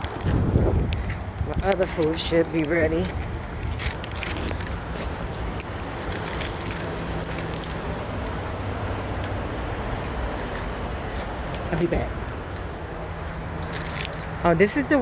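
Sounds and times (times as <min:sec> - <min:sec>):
urban background rumble: 0:00.0 - 0:15.0.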